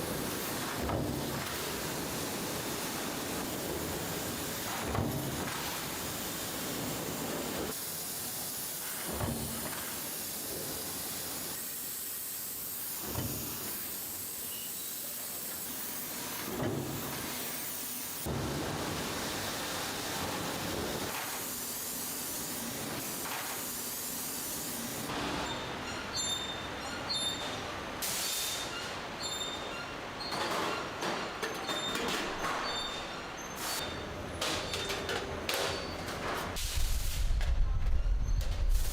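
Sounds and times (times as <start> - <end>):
hissing factory machinery: 0.0 - 38.9.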